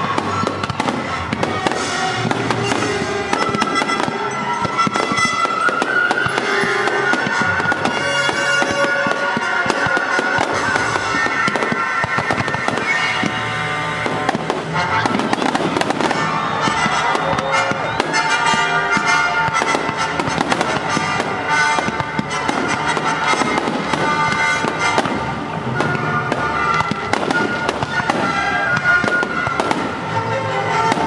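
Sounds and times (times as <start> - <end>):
fireworks bursting and crackling: 0.0 - 31.0
music over loudspeakers: 0.0 - 31.0.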